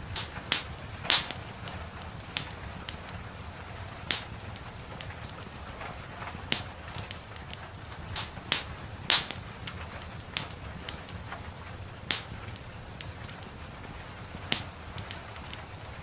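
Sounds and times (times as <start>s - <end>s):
rain: 0.0s - 16.0s
wood fire crackling: 0.0s - 16.0s.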